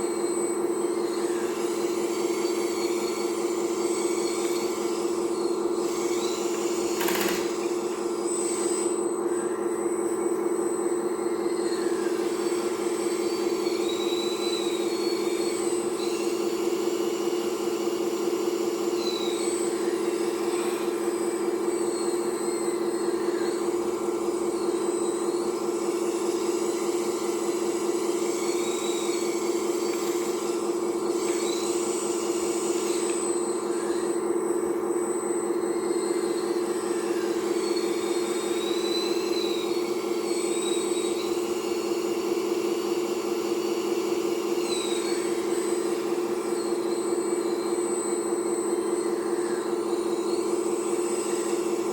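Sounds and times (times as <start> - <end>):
high hydraulic whines: 0.0 - 51.9
hydraulic pump humming: 0.0 - 51.9.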